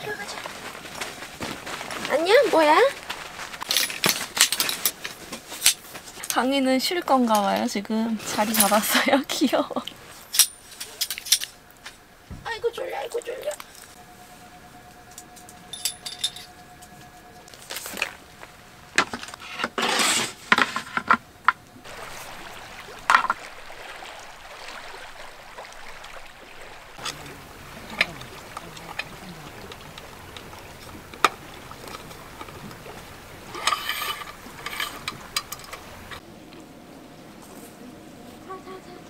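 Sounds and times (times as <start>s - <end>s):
camping gear clicking and rustling: 0.0s - 6.4s, 9.8s - 12.1s, 13.2s - 36.2s.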